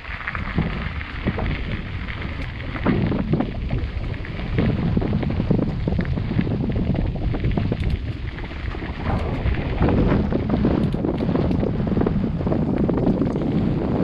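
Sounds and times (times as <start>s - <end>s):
bike rattling and knocking: 0.0s - 14.0s
tyres rolling over dirt: 0.0s - 14.0s
wind buffeting microphone: 0.0s - 14.0s.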